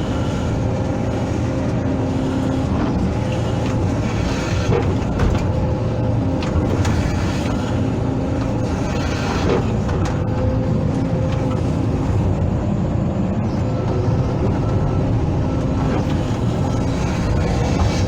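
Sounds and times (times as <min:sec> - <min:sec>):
excavator diesel engine droning: 0:00.0 - 0:18.0.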